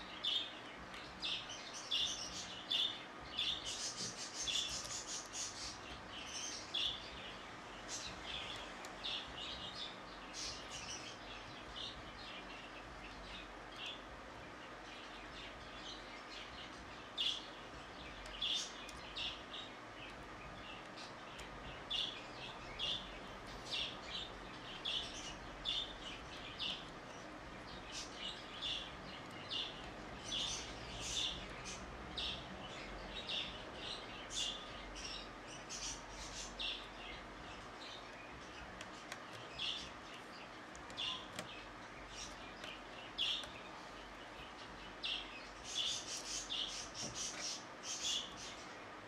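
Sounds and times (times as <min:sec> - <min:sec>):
birds chirping: 0:00.0 - 0:49.0
steady low background hum: 0:00.0 - 0:49.0.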